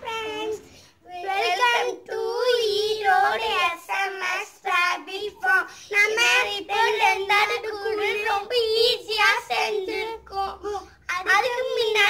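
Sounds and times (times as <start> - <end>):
boys singing a chanted greeting: 0.0 - 12.0.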